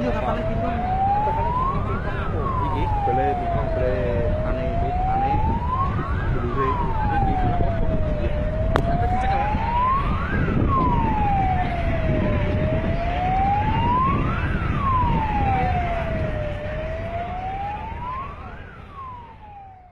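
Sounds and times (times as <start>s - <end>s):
emergency vehicle siren wailing: 0.0s - 19.9s
low rumbling noise: 0.0s - 19.9s.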